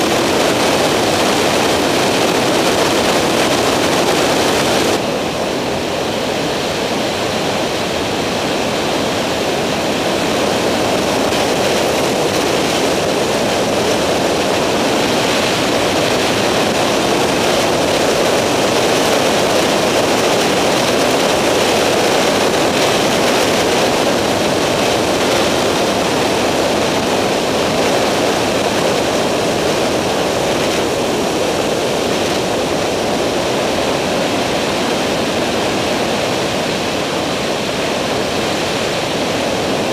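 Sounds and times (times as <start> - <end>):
microlight engine and airflow rush: 0.0 - 39.9.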